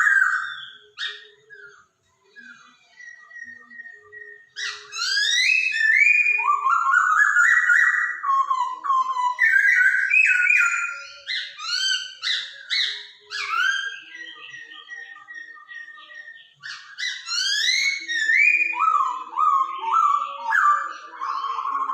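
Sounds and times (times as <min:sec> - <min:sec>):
bird singing whistled phrases: 0:00.0 - 0:21.9
faint bird chirps: 0:00.0 - 0:21.9.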